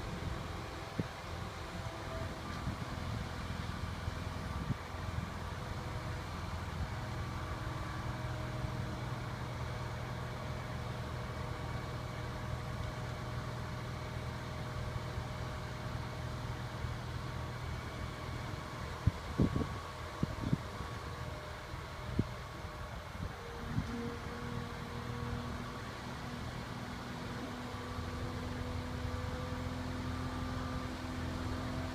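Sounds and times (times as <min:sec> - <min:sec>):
large engine running: 0:00.0 - 0:31.9.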